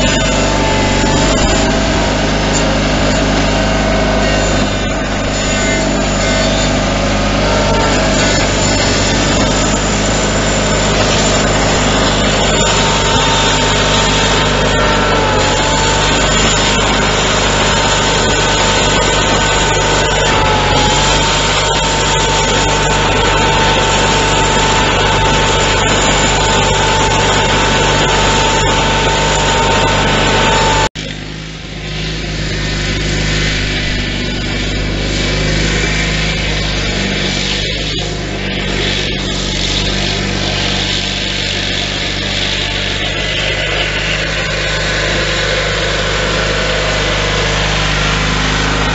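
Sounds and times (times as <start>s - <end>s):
garden tractor engine running: 0.0s - 48.9s
high whine: 0.0s - 48.9s.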